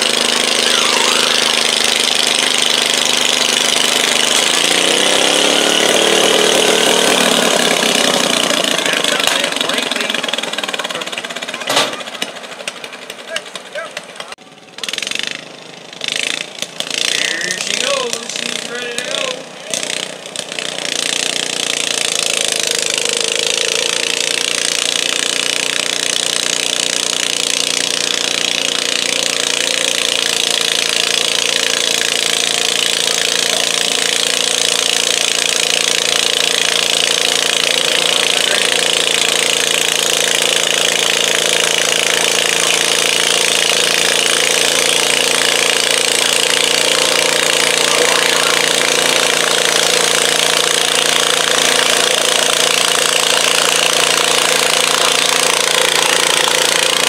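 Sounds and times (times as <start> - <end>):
garden tractor engine at full throttle: 0.0 - 57.0
large tractor running: 0.0 - 57.0.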